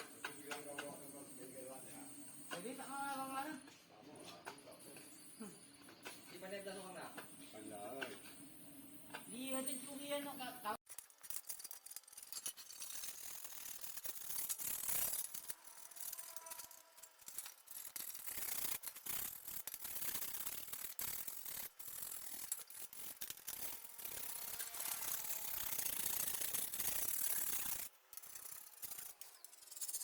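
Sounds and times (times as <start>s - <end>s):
hand tools clicking and scraping metal: 0.0s - 8.5s, 10.8s - 30.0s.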